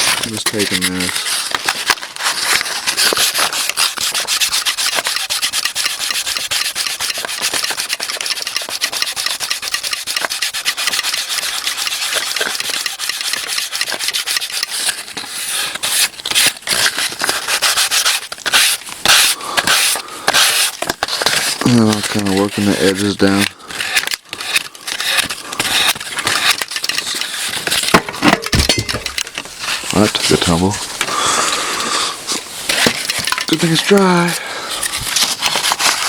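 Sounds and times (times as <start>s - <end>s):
sandpaper rubbing on painted metal: 0.0s - 27.8s, 32.5s - 36.0s.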